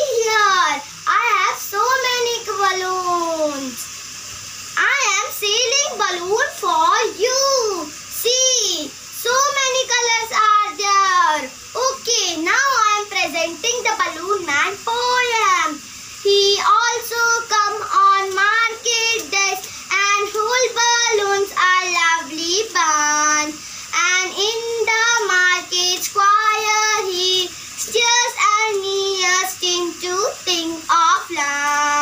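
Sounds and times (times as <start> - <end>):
young child singing: 0.0 - 3.9, 4.8 - 32.0.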